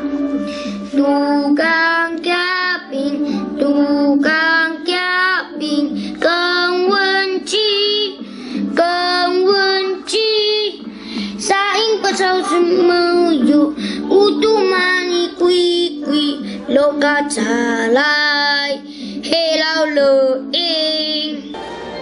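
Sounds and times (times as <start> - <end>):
musical accompaniment: 0.0 - 22.0
young voices singing: 0.9 - 21.5.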